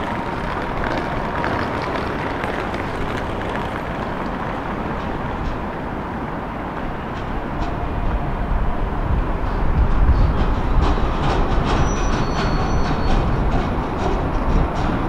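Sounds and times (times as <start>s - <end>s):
rail vehicle approaching: 0.0s - 15.0s
urban vehicle rumble: 0.0s - 15.0s.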